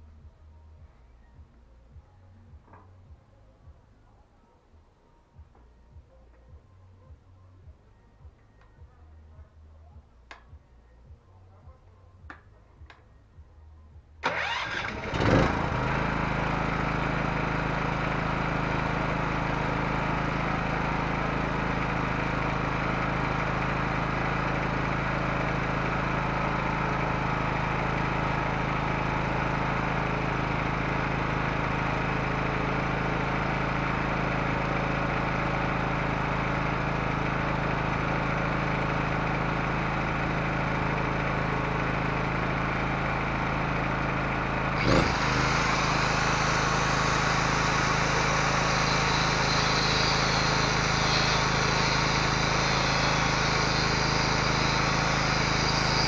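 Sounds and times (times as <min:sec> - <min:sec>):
generator engine starting and running: 0:05.8 - 0:56.0.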